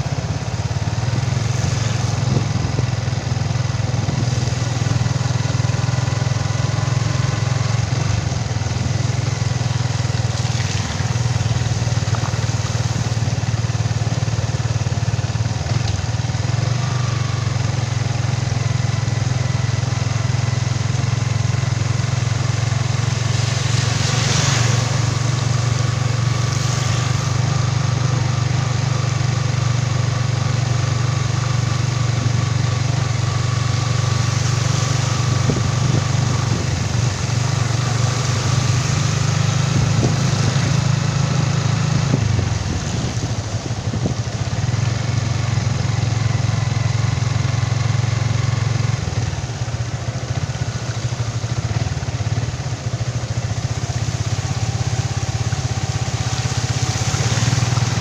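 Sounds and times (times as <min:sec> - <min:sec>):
motorcycle engine running: 0:00.0 - 0:58.0
tyres hissing through water: 0:00.4 - 0:58.0.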